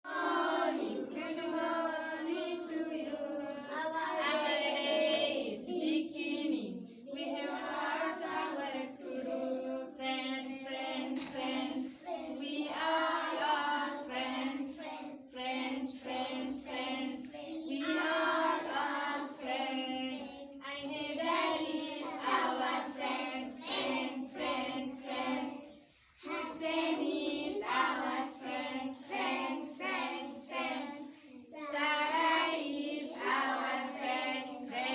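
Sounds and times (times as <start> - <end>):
children singing in chorus: 0.0 - 34.9.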